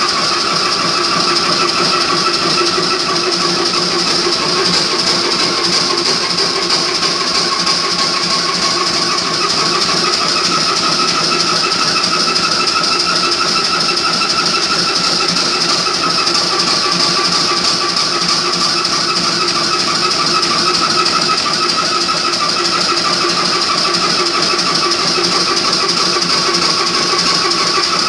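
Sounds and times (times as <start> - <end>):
stationary oil engine running: 0.0 - 28.0.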